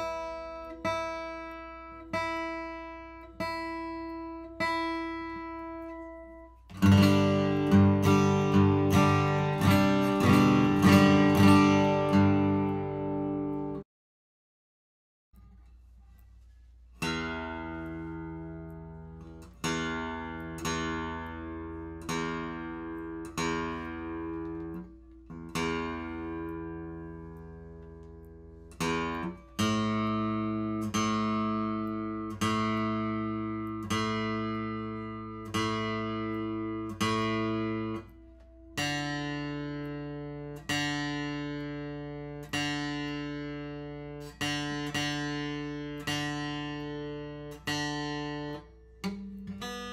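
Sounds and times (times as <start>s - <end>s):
acoustic guitar string plucked: 0.0s - 13.8s, 15.4s - 49.9s.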